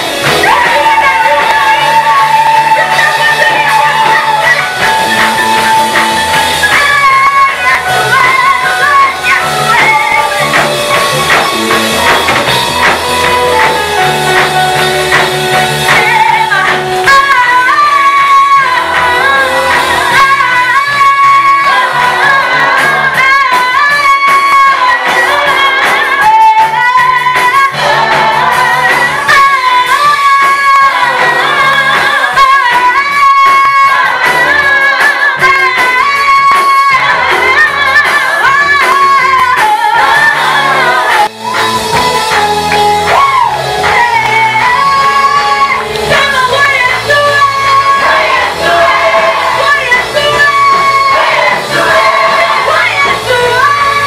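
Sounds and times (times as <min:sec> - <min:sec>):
group singing gospel song: 0:00.0 - 0:54.0
live band with bass: 0:00.0 - 0:54.0.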